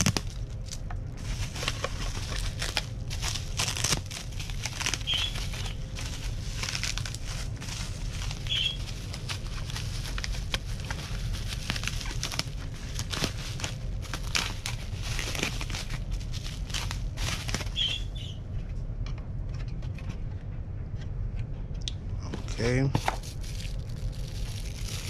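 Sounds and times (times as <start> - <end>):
bubble wrap crinkling: 0.0 - 18.4, 22.9 - 25.0.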